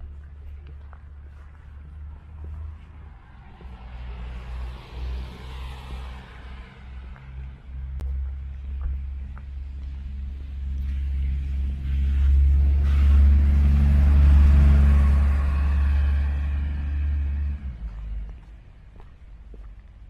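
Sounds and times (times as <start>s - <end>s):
engine whine: 0.0s - 18.8s
bus engine rumble: 0.0s - 20.0s.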